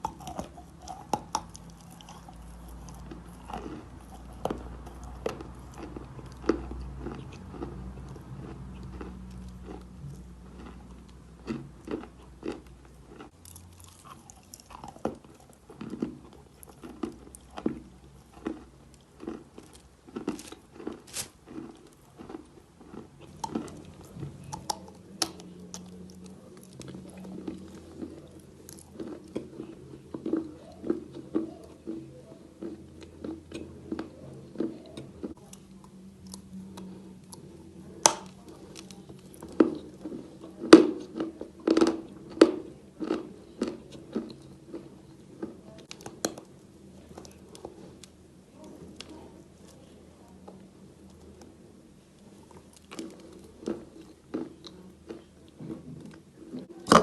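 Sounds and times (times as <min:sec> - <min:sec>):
chalk crunching while chewed: 0:00.0 - 0:51.6, 0:52.2 - 0:57.0.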